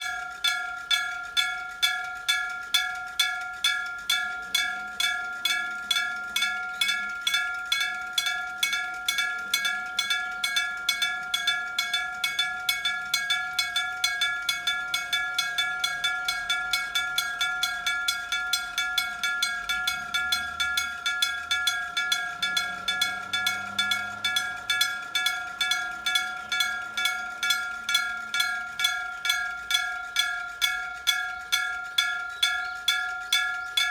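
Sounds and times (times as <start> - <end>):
electric level crossing bell: 0.0 - 33.9.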